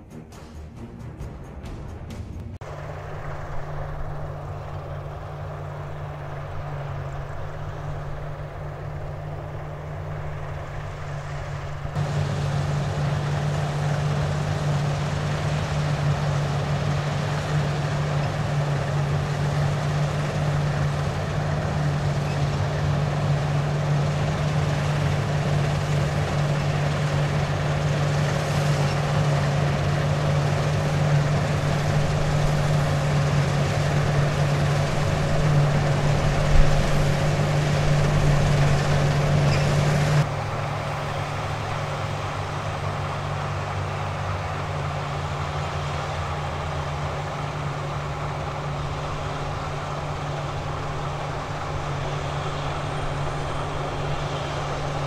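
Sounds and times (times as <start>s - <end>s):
tractor running: 0.0s - 55.0s
combine harvester engine drone: 1.6s - 55.0s.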